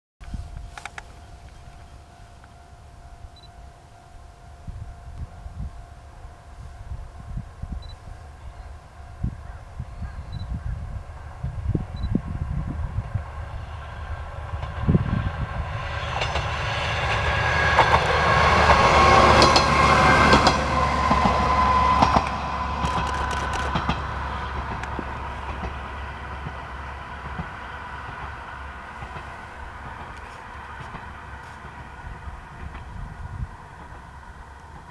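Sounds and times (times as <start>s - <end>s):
railcar engine drone: 0.2s - 34.9s.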